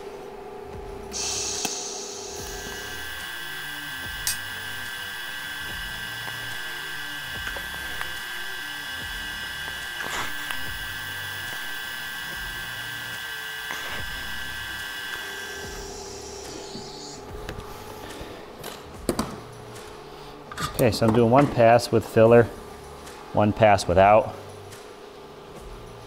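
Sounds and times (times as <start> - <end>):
welding arc whine and hiss: 0.0 - 26.0.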